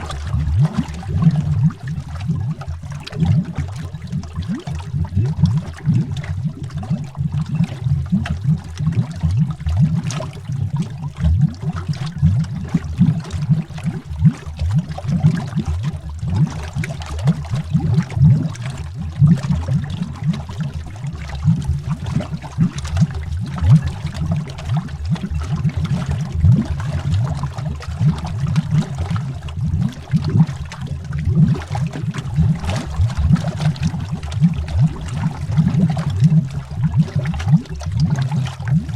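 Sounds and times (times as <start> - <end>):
underwater bubbling: 0.0 - 38.9.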